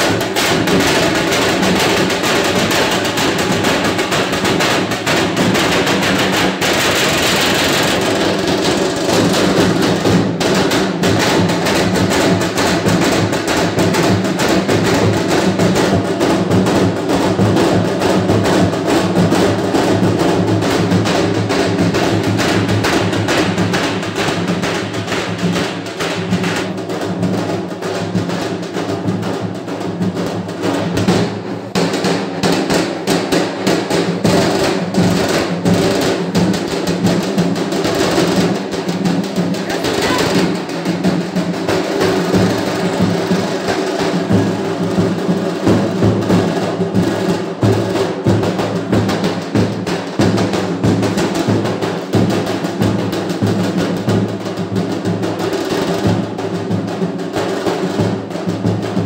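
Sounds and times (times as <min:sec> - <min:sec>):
dhol drums played fast: 0:00.0 - 0:59.0.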